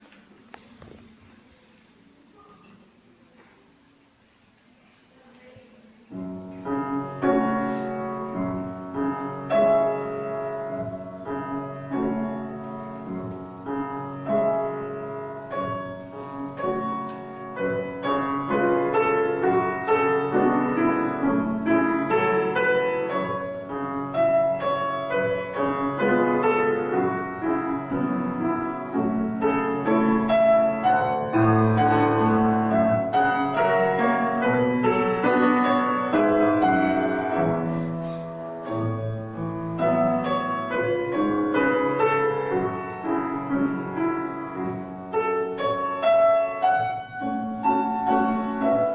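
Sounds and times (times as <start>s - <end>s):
solo piano classical piece: 5.7s - 48.9s.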